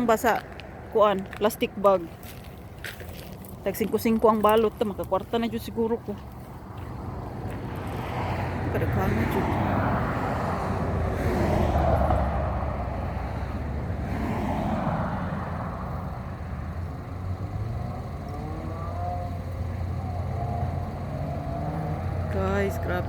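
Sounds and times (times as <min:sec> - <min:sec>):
cars passing: 0:00.0 - 0:23.0
traffic rumble: 0:00.0 - 0:23.0.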